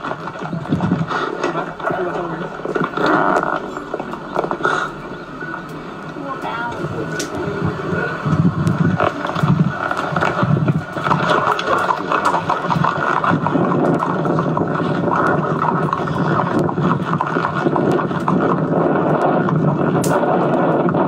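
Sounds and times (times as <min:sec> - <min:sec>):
dull rushing noise: 0:00.0 - 0:21.0.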